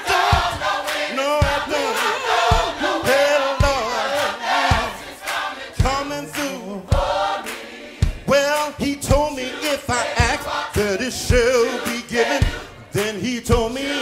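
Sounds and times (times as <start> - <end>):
choir singing gospel: 0.0 - 14.0
steady drum beat: 0.0 - 14.0.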